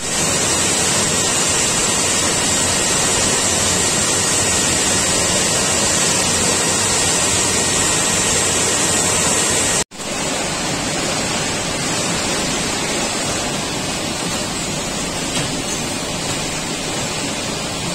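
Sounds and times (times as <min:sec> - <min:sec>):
factory machinery roar with hiss: 0:00.0 - 0:17.9.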